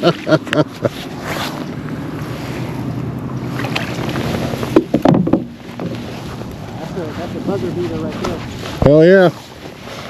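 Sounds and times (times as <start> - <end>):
water lapping against kayak: 0.0 - 10.0.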